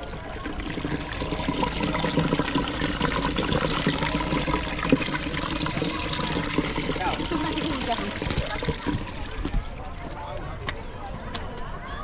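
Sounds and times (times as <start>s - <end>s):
water trickling and splashing: 0.0s - 10.4s.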